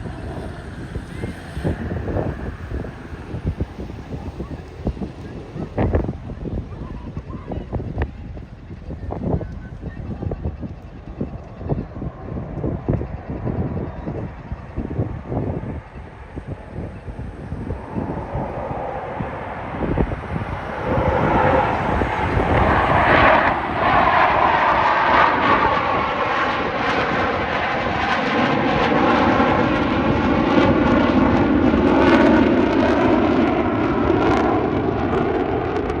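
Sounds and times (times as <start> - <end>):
jet engines flying past: 0.0 - 36.0.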